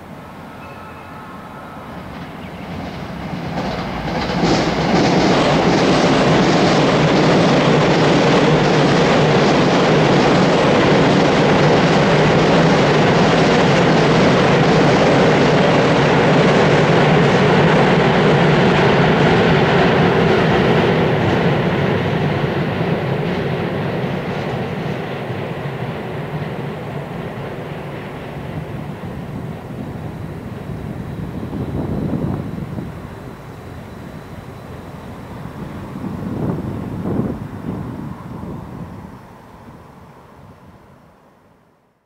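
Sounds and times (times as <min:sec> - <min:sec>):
train wheels rumbling and clattering: 0:00.0 - 0:40.2.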